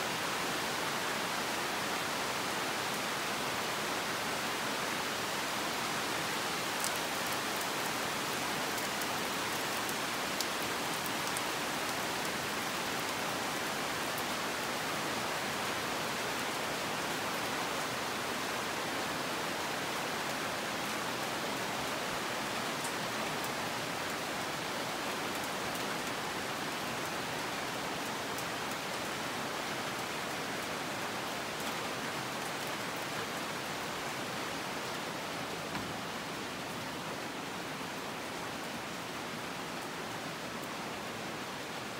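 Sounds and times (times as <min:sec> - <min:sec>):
rain hissing on foliage: 0:00.0 - 0:41.9.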